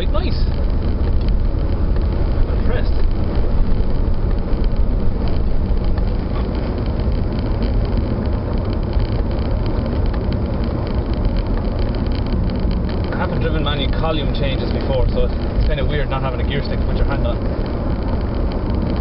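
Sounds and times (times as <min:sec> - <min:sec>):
car engine running: 0:00.0 - 0:19.0
exhaust blowing: 0:00.0 - 0:19.0.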